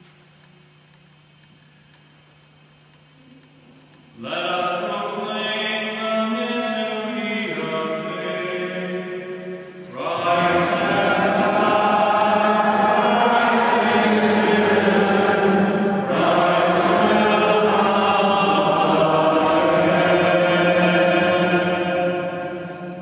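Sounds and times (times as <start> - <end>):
voices chanting: 4.2 - 23.0.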